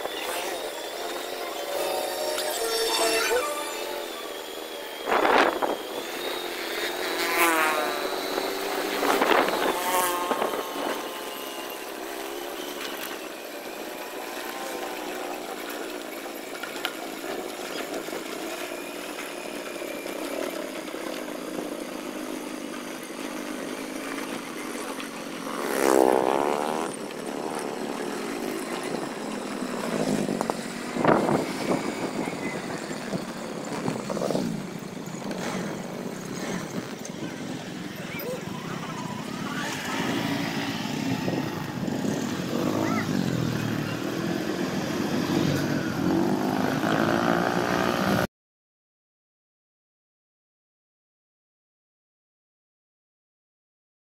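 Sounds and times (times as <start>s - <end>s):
motorcycle engine running: 3.5s - 48.3s.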